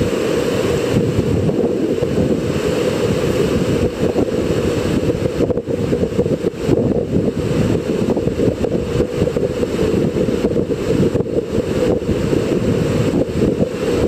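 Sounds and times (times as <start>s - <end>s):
whitewater river roaring: 0.0s - 14.0s.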